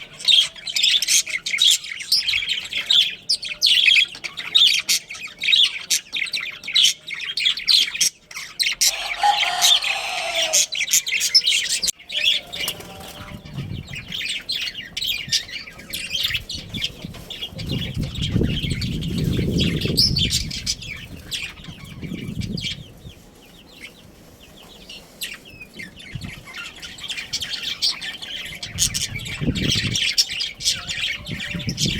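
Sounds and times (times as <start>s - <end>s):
budgerigars chirping: 0.0s - 31.9s.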